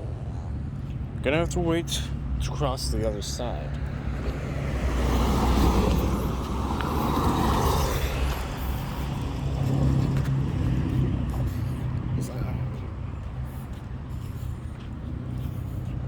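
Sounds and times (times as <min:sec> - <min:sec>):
car passing: 0:00.0 - 0:16.0
vehicle passing quietly: 0:00.1 - 0:16.0.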